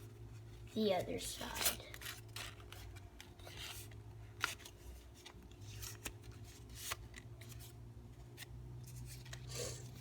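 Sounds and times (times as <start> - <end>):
steady low hum: 0.0 - 10.0
paper rustling and crinkling: 0.7 - 10.0.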